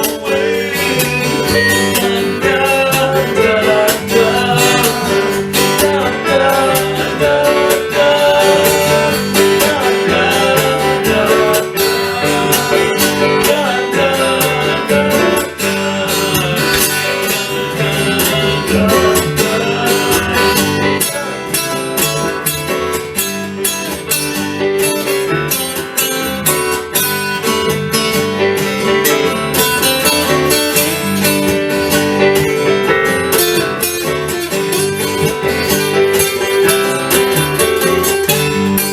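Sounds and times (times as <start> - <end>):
acoustic guitar country instrumental: 0.0 - 38.9.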